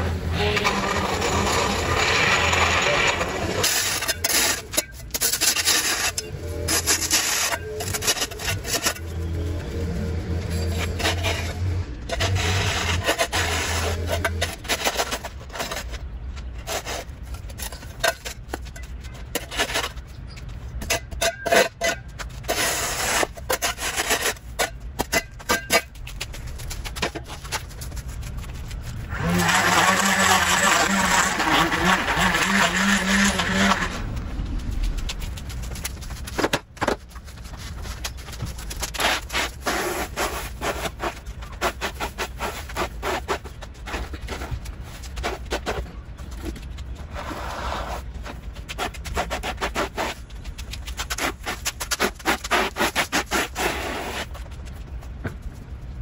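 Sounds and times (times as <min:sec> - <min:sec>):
rake scraping on concrete: 0:00.0 - 0:55.0
loud steady noise with hum: 0:00.0 - 0:56.0.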